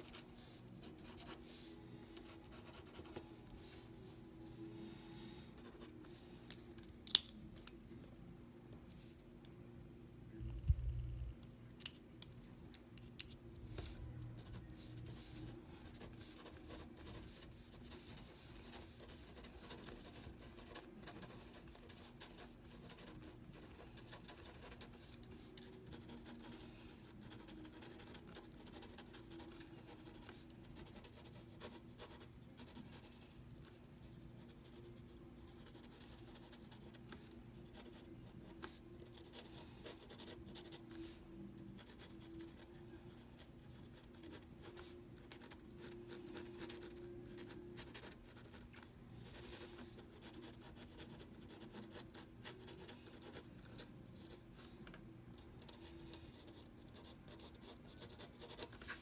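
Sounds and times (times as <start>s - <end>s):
pencil scribbling on paper: 0.0s - 3.9s, 14.4s - 54.5s, 55.4s - 59.0s.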